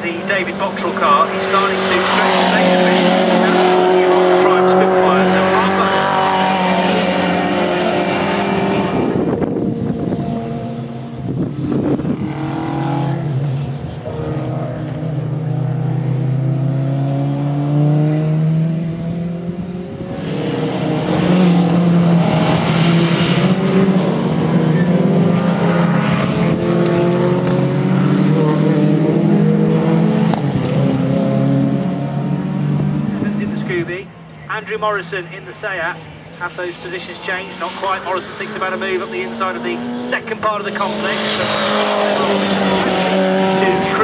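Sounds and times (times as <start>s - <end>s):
racing car engines: 0.0s - 44.0s.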